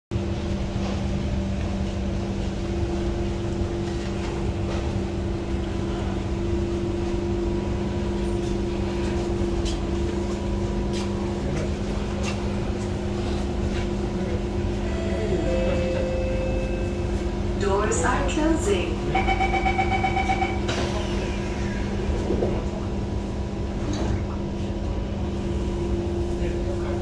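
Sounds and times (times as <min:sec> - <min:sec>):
train air-conditioning hum: 0:00.2 - 0:27.0.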